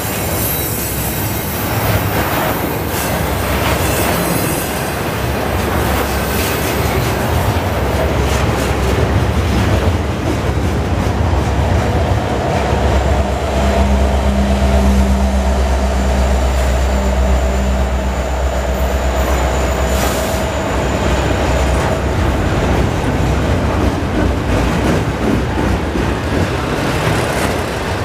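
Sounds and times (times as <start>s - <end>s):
diesel locomotive engine drone: 0.0s - 28.0s
train wheels rumbling over rails: 0.0s - 28.0s.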